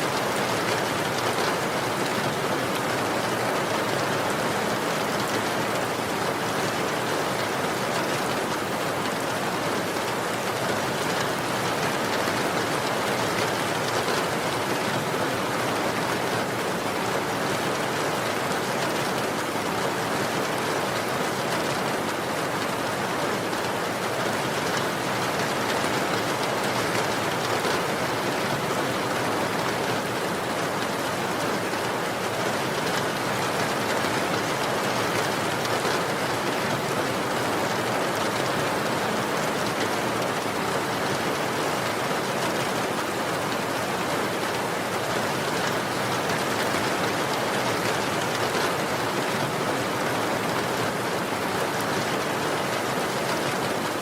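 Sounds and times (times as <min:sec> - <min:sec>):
rain falling: 0:00.1 - 0:54.0.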